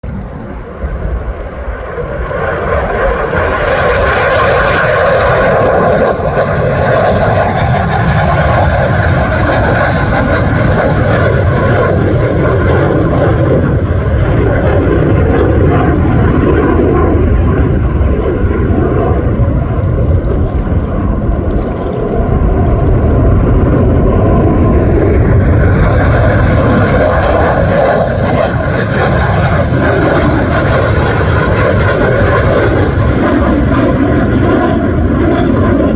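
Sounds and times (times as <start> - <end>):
jet engines roaring: 0.0 - 35.9.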